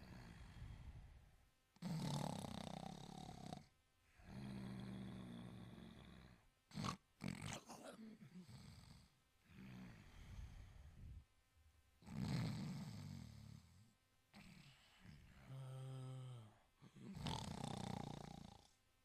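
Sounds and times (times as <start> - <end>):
dog snoring: 1.8 - 10.8, 12.0 - 18.8.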